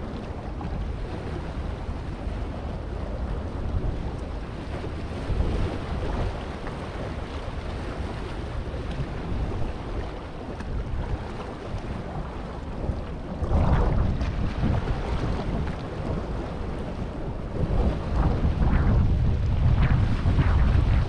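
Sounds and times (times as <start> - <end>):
wind rumbling on microphone: 0.0 - 21.0
waves splashing over rocks: 2.5 - 21.0.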